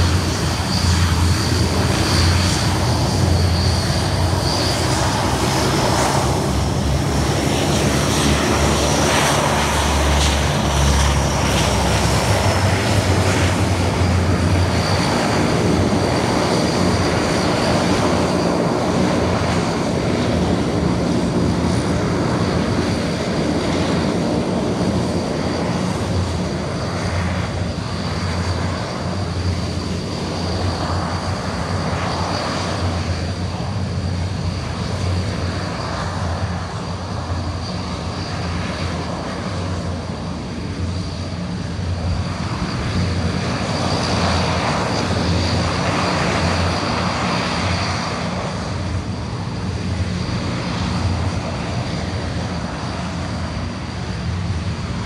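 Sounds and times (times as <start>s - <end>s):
turboprop aircraft taxiing: 0.0s - 55.0s.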